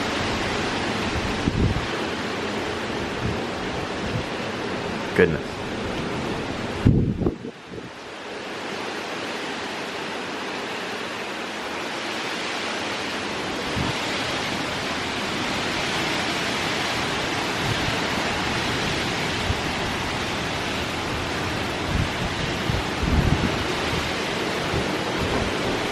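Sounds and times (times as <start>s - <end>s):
heavy wind-driven rain: 0.0s - 25.9s.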